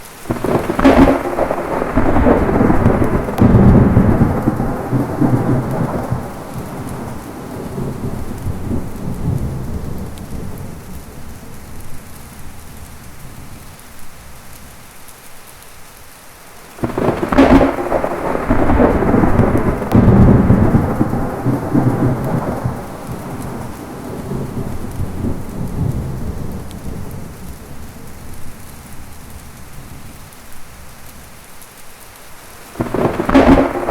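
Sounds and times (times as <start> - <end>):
steady rain: 0.0 - 33.9
thunder rumbling: 0.2 - 14.9, 16.8 - 31.3, 32.7 - 33.9.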